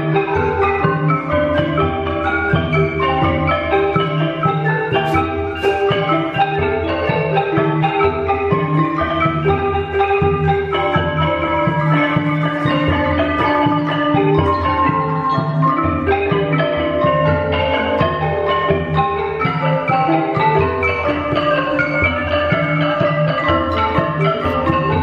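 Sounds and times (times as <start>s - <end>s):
melody of short notes: 0.0s - 25.0s.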